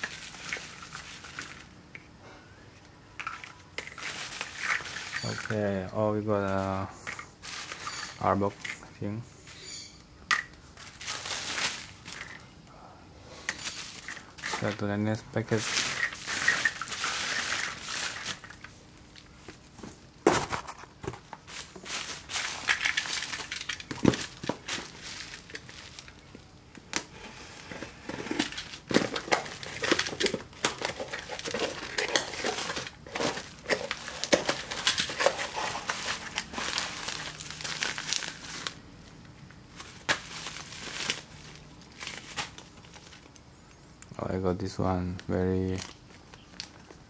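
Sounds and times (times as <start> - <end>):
bubble wrap crinkling: 0.0 - 1.7, 3.8 - 8.9, 10.6 - 12.5, 13.5 - 43.5, 44.7 - 47.0.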